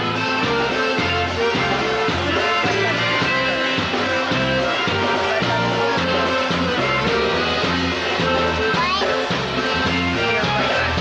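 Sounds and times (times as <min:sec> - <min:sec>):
bass rhythm: 0:00.0 - 0:11.0
live band playing instrumental: 0:00.0 - 0:11.0.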